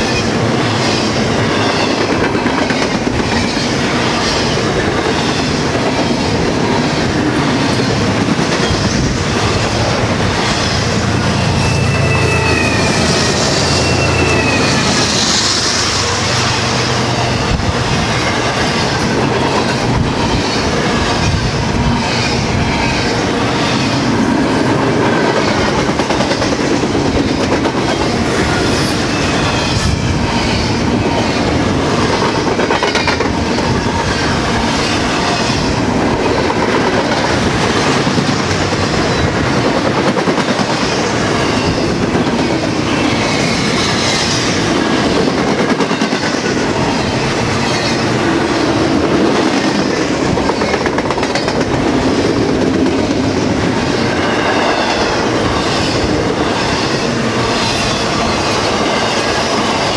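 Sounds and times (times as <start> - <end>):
train cars rolling past: 0.0 - 59.9.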